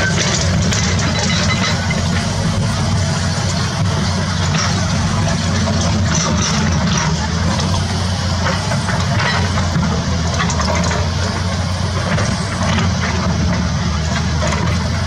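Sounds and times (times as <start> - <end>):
construction machine diesel engine: 0.0 - 15.0.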